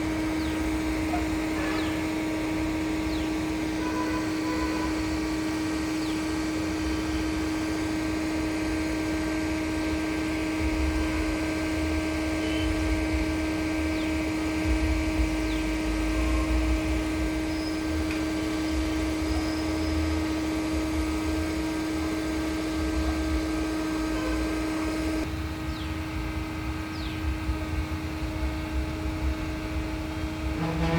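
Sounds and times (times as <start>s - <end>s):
concrete pump running: 0.0s - 30.9s.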